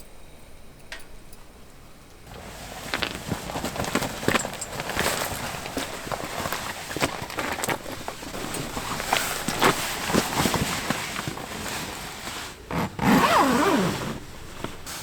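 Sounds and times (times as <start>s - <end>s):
fabric rustling: 2.3s - 15.0s
light knocks and steps: 2.3s - 15.0s.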